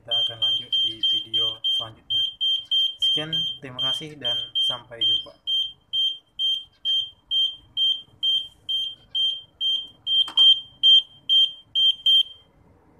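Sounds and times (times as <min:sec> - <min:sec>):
high-pitched buzzer beeps: 0:00.1 - 0:12.4.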